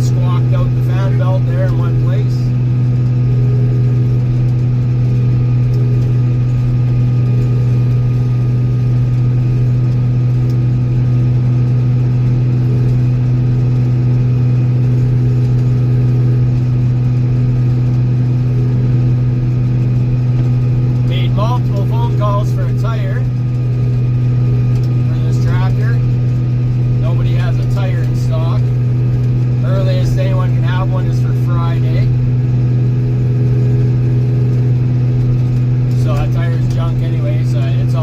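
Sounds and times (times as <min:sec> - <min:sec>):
tractor diesel engine droning: 0:00.0 - 0:38.0.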